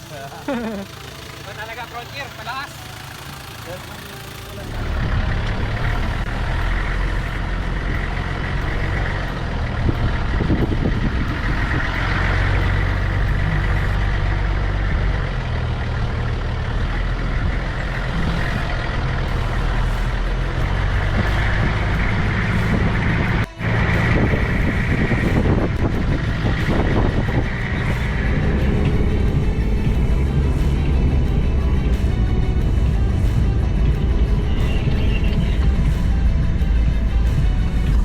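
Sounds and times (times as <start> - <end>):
tyre and road noise: 0.0 - 38.0
vehicle engine running off-road: 0.0 - 38.0.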